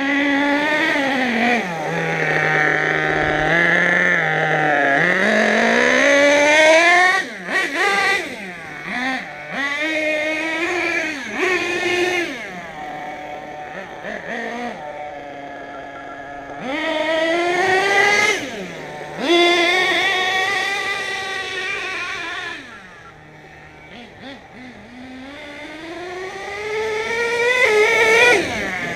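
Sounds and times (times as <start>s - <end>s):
small engine revving: 0.0s - 28.9s.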